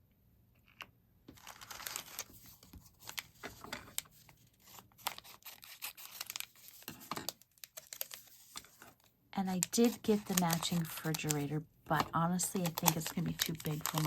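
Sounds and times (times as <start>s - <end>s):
plastic packaging crinkling: 1.4s - 14.0s.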